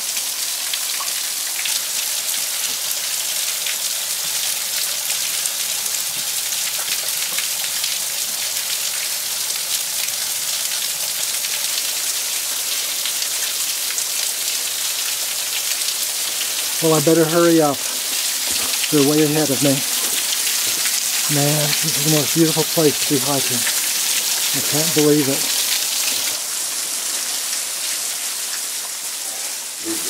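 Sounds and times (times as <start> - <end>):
small waterfall splashing: 0.0 - 30.0.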